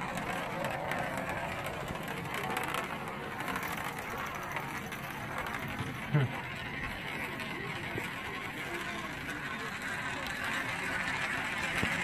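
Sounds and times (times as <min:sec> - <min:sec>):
coin rolling in spiral funnel: 0:00.0 - 0:12.0.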